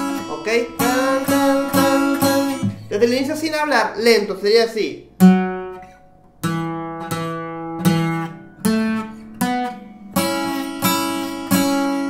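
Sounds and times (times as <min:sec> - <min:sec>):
acoustic guitar picked notes: 0:00.0 - 0:12.0.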